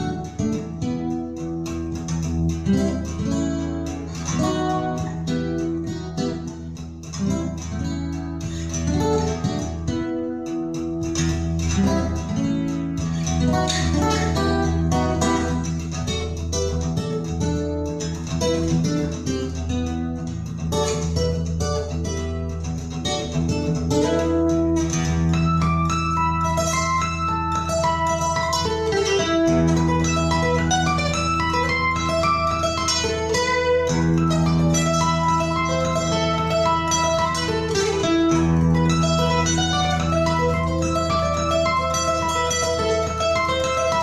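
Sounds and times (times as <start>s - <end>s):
plucked and strummed guitar: 0.0s - 44.0s.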